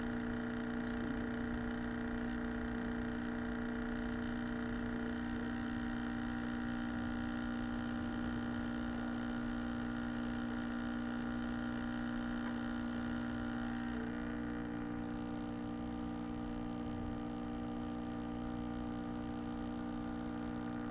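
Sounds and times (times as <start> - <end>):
droning hum of held tones: 0.0 - 20.9.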